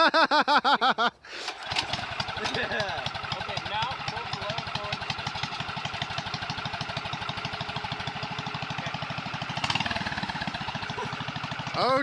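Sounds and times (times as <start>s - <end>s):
single-cylinder engine running: 1.5s - 12.0s.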